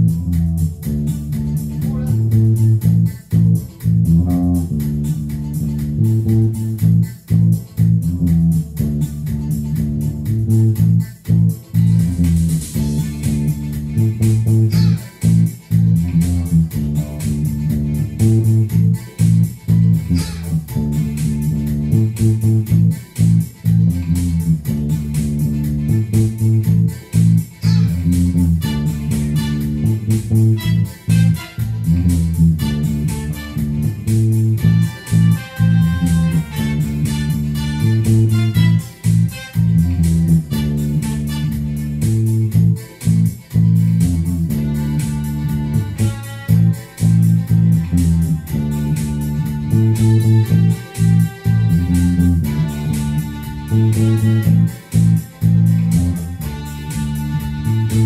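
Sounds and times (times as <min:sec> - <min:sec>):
bass guitar line: 0:00.0 - 0:58.0
guitar: 0:00.0 - 0:58.0.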